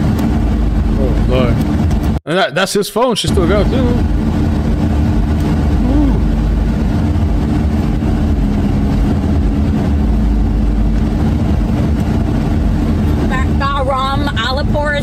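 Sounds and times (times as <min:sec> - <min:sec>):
car road and engine noise: 0:00.0 - 0:02.2, 0:03.1 - 0:15.0.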